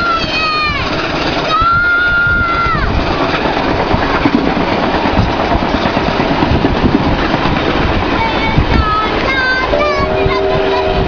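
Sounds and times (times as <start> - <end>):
low pounding: 0.0 - 11.0
train wheels rumbling on rails: 0.0 - 11.0.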